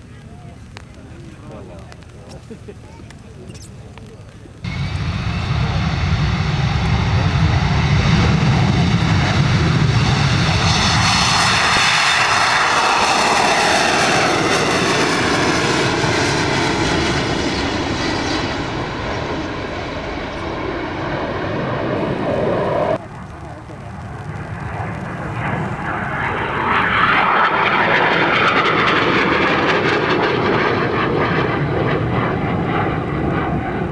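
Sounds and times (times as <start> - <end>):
aircraft passing overhead: 4.6 - 33.9.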